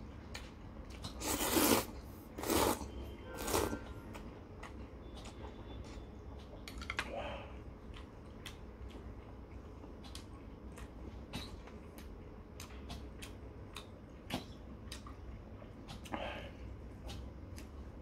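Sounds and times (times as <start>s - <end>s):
man chewing noodles: 0.0s - 6.6s, 7.5s - 18.0s.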